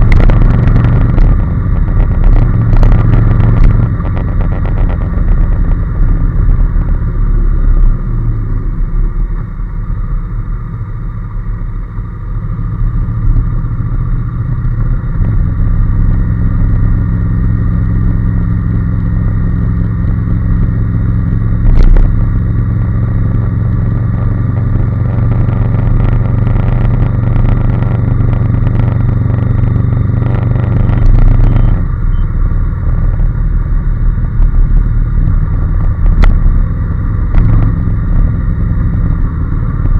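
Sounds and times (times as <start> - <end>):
motorcycle engine droning: 0.0 - 39.9
road and wind noise: 0.0 - 39.9.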